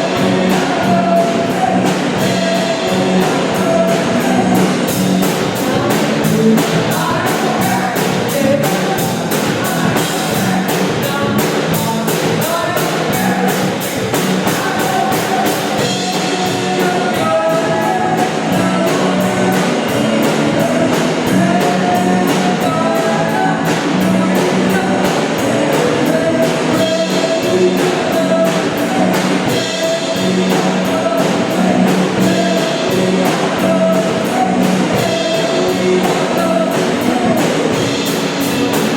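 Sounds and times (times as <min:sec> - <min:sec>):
person singing: 0:00.0 - 0:38.9
rock band playing: 0:00.0 - 0:38.9.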